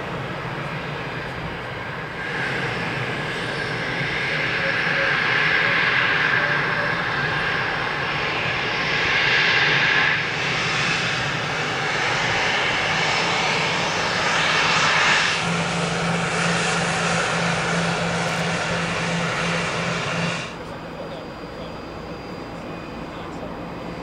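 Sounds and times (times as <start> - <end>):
jet engines whining: 0.0 - 24.0.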